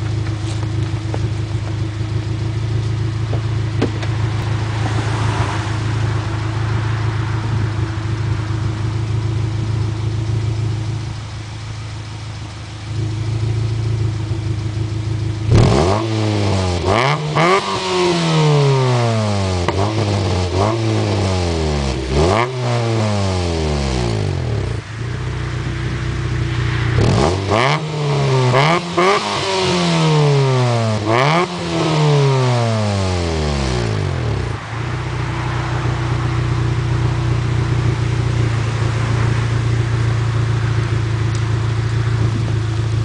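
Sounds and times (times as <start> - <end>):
car engine idling: 0.0 - 43.0
car engine revving: 0.0 - 43.0.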